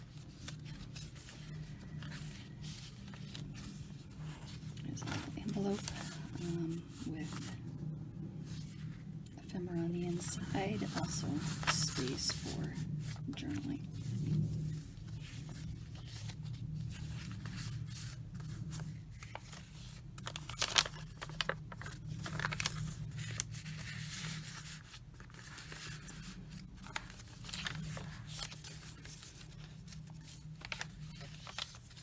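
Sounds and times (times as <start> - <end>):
low hum: 0.0 - 31.8
paper pages rustling and crinkling: 0.0 - 32.0.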